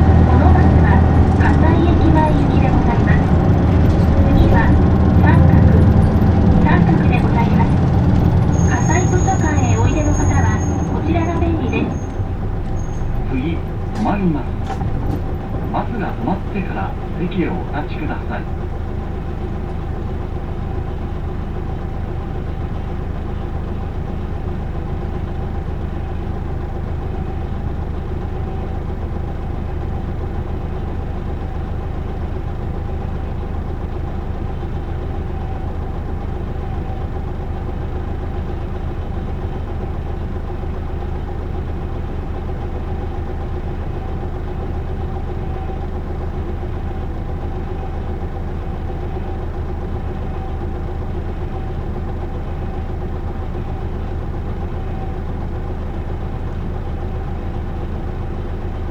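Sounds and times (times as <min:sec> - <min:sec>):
bus diesel engine idling: 0:00.0 - 0:58.9.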